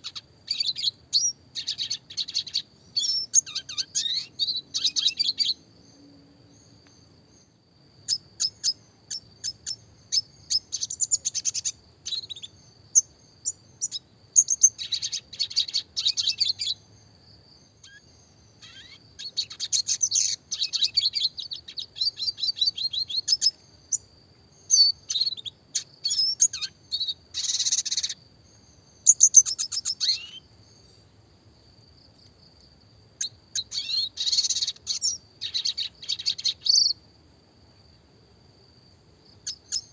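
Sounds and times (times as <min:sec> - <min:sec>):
bird twittering and trilling: 0:00.0 - 0:16.9, 0:17.7 - 0:31.0, 0:33.2 - 0:37.0, 0:39.4 - 0:39.9.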